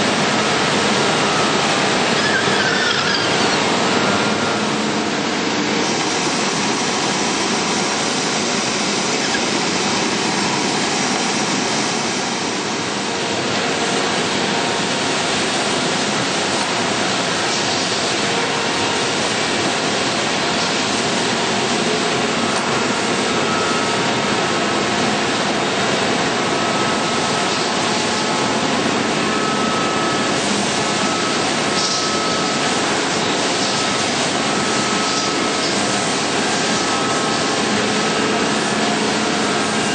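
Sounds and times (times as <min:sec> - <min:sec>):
sanding machines running: 0:00.0 - 0:29.3, 0:32.6 - 0:39.9.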